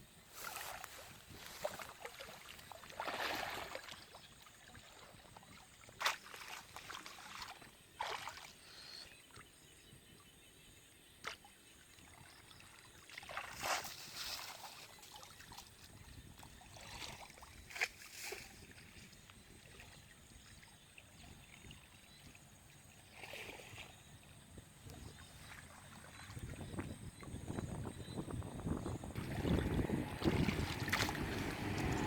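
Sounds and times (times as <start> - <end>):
water splashing and sloshing: 0.3 - 8.8, 11.2 - 27.0, 29.1 - 32.0.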